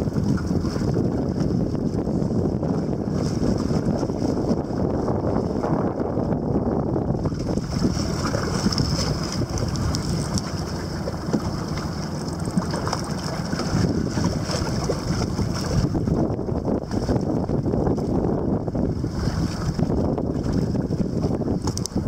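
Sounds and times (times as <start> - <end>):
small waves lapping against boat: 0.0 - 22.0
wind buffeting microphone: 0.0 - 22.0.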